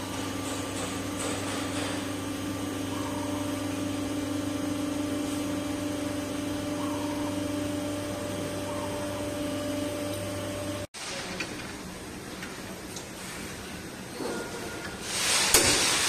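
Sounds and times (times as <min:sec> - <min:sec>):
hydraulic motor and pump humming: 0:00.0 - 0:16.0.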